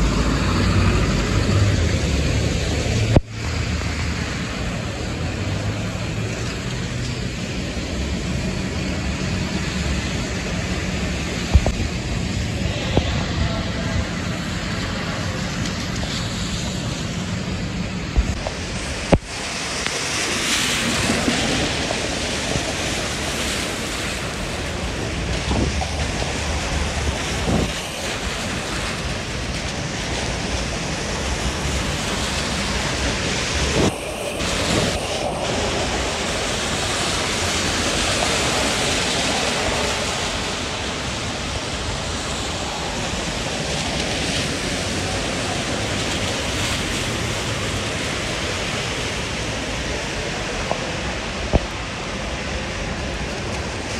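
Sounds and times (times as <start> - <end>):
car tyres swishing on wet road: 0.0 - 53.9
wind noise on microphone: 0.0 - 53.9.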